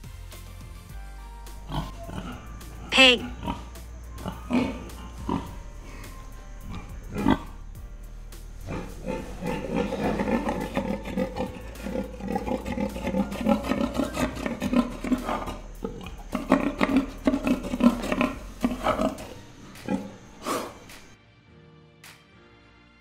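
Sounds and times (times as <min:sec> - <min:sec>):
pigs grunting: 0:01.6 - 0:07.9, 0:08.5 - 0:21.2.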